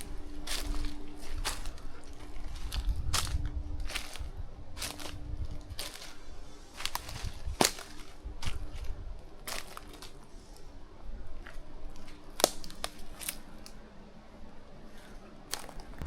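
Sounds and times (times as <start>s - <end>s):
twigs crackling underfoot: 0.0s - 13.9s, 14.5s - 16.0s.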